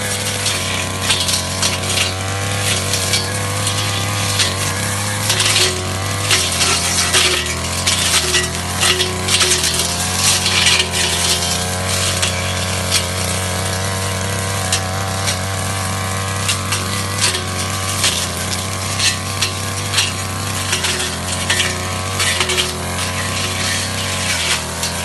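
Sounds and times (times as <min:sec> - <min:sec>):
blade ticking on stems: 0:00.0 - 0:25.0
brush cutter engine running: 0:00.0 - 0:25.0.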